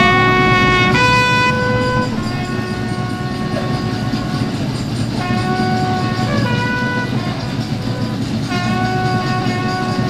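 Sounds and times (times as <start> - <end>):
trumpet playing long notes: 0.0 - 10.0.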